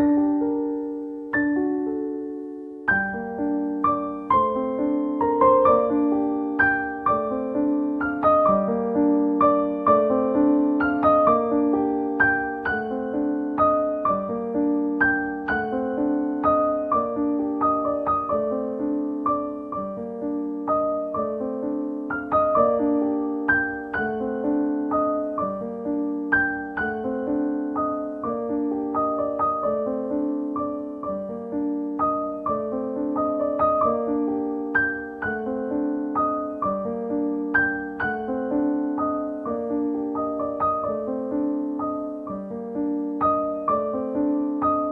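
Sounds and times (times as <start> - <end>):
gentle piano music: 0.0 - 44.9.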